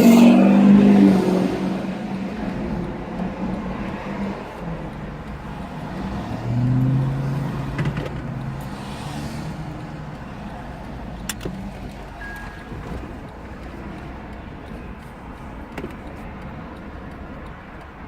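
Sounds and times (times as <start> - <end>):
vehicle engine running: 0.0 - 17.3.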